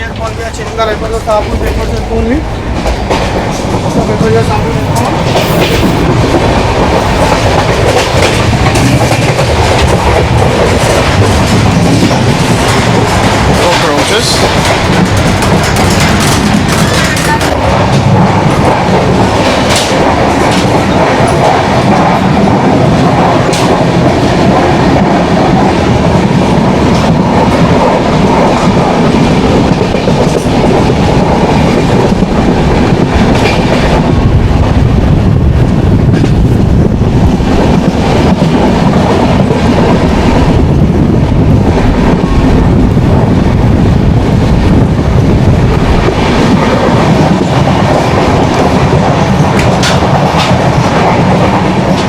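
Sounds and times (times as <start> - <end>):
rail joint clicks: 0.0 - 34.7, 35.6 - 52.0
train wheels rumbling on rails: 0.0 - 52.0.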